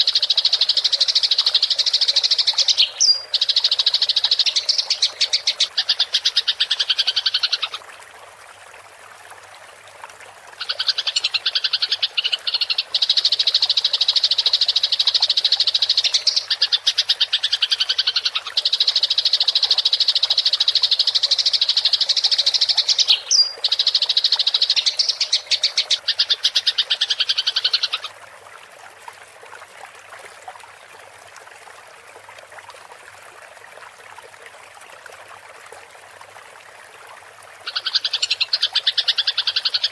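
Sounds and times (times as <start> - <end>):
faint trickle of water: 0.0 - 39.9.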